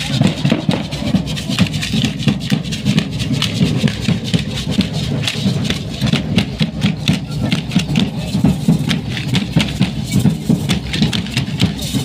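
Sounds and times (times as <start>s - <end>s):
street band with tuba: 0.0s - 12.0s.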